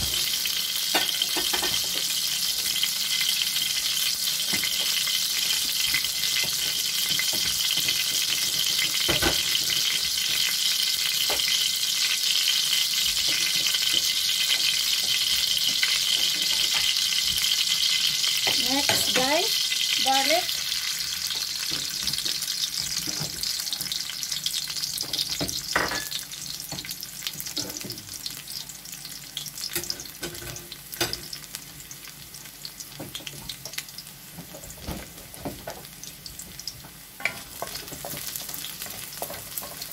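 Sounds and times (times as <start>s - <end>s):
oil sizzling in a wok: 0.0s - 39.9s.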